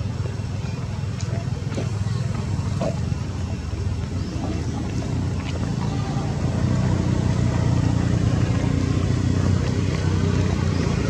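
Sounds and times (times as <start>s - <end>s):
low engine-like drone: 0.0s - 11.0s.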